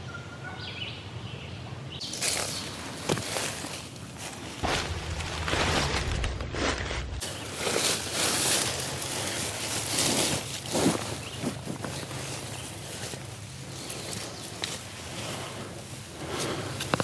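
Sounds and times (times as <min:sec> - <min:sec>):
dry leaves crunching and rustling: 0:02.0 - 0:17.0.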